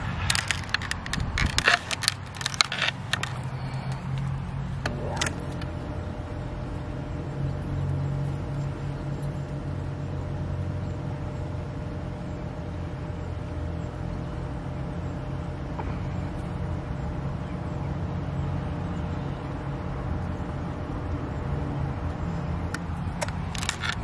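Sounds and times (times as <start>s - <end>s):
pool pump motor humming: 0.0s - 24.0s.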